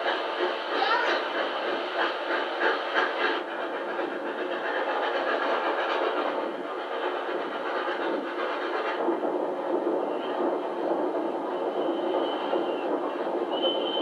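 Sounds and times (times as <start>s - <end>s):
air rushing past train: 0.0s - 14.0s
train wheels on rails: 0.0s - 14.0s.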